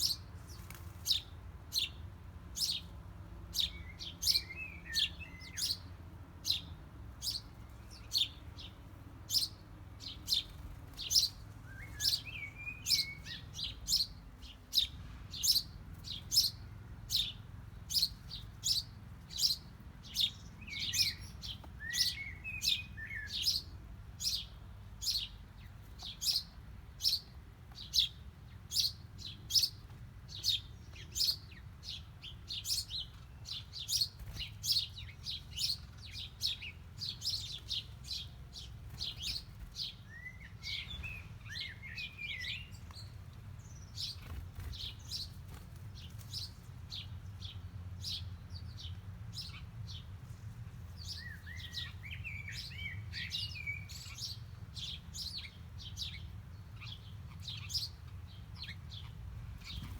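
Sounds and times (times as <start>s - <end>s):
soft bird twittering: 9.3s - 27.2s, 27.8s - 50.0s, 51.0s - 59.9s.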